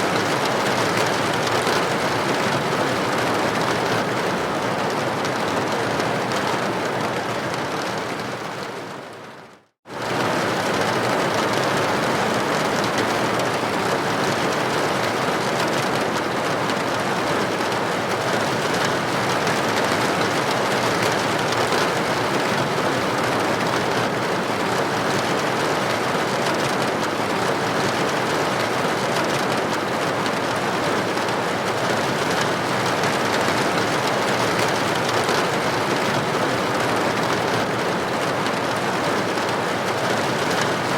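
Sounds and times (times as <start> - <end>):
heavy rain on window: 0.0 - 40.9.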